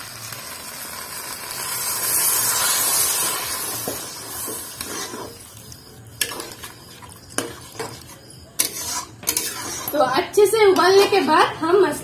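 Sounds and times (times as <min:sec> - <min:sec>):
water sizzling in hot pan: 0:00.0 - 0:11.5.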